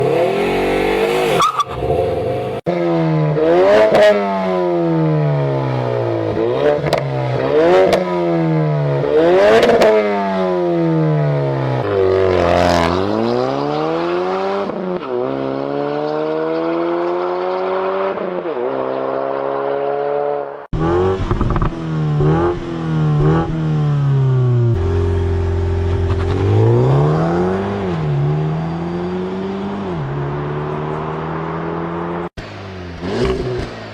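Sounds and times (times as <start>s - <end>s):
engines revving through exhausts: 0.0s - 33.9s.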